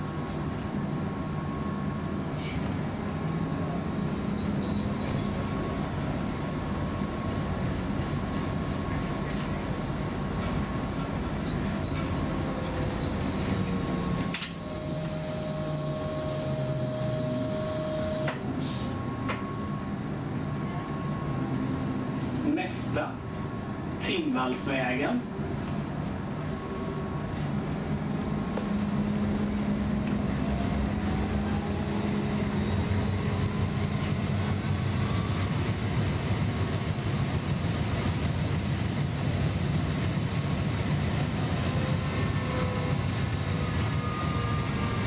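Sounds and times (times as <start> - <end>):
tram wheels rumbling: 0.0 - 45.0.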